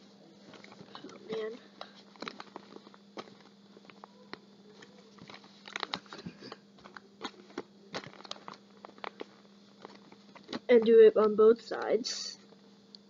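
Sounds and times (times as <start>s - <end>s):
paper crinkling and rustling: 0.4s - 11.4s.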